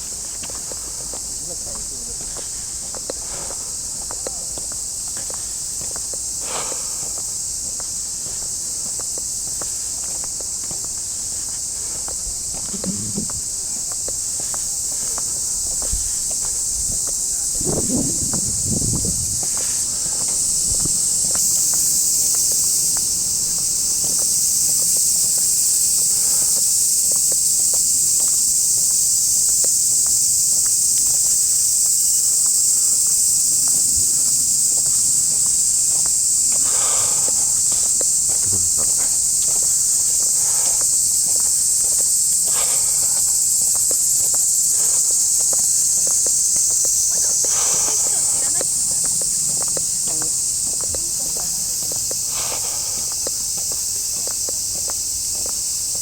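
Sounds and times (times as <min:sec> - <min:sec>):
cicadas shrilling: 0:00.0 - 0:56.0
footsteps on a path: 0:00.0 - 0:56.0.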